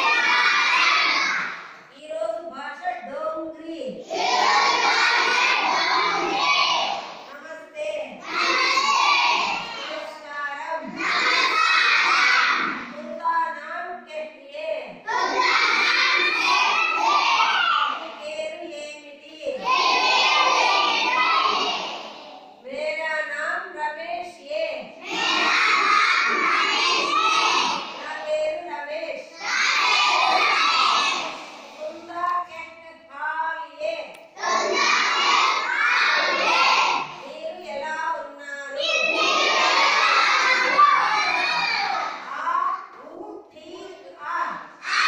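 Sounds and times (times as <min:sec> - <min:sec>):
children reciting in unison: 0:00.0 - 0:07.4, 0:08.0 - 0:13.3, 0:14.9 - 0:23.0, 0:24.2 - 0:43.0, 0:43.6 - 0:45.0.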